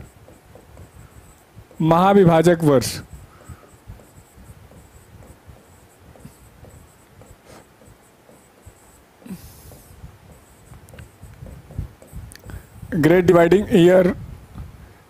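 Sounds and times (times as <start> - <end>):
pen scratching on a board: 0.0 - 14.1.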